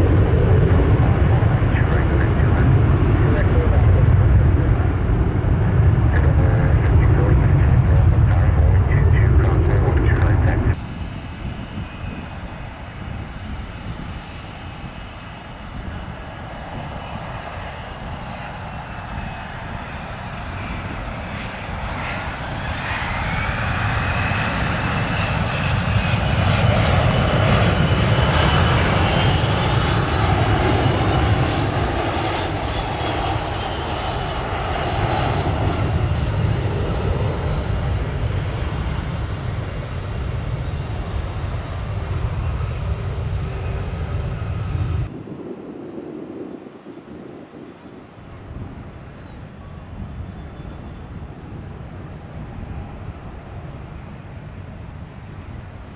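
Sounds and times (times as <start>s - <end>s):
jet whining and rumbling: 0.0s - 55.9s.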